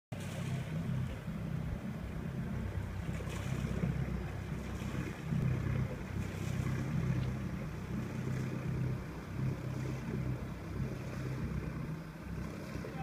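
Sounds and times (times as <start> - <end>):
boat engine throbbing: 0.2 - 13.0.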